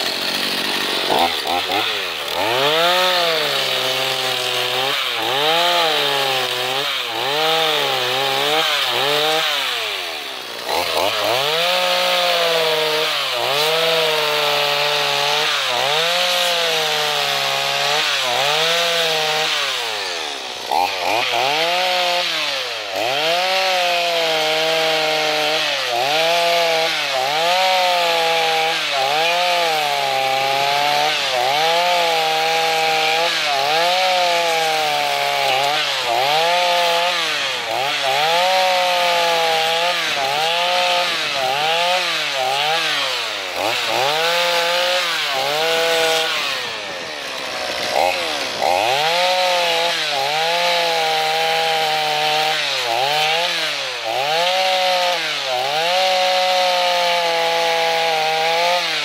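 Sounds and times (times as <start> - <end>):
chainsaw disc cutting wood: 0.0 - 59.0.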